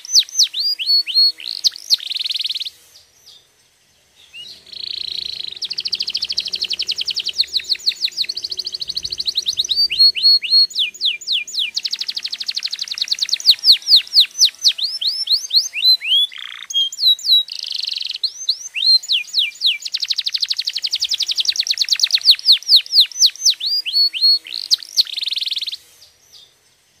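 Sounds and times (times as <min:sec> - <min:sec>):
canary singing trills: 0:00.0 - 0:03.5, 0:04.1 - 0:26.6.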